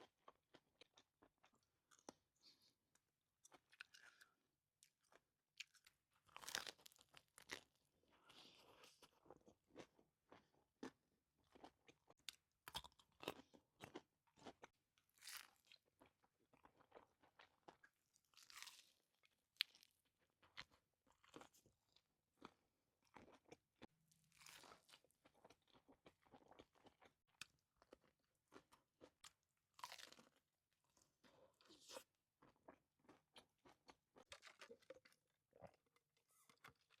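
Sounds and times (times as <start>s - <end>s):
chewing crunchy toasted sandwich: 0.0s - 2.8s, 3.4s - 37.0s.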